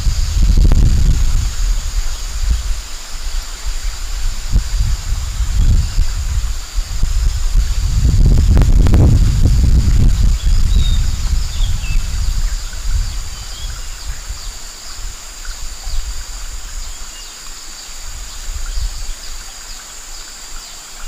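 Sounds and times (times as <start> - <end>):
wind rumble on microphone: 0.0 - 20.3
high insect drone: 0.0 - 21.0.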